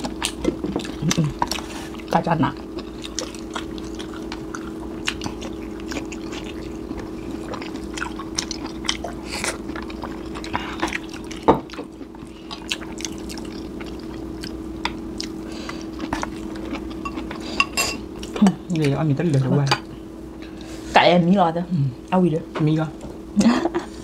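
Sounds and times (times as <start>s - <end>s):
chewing: 0.0s - 19.5s
steady low hum: 0.0s - 24.0s.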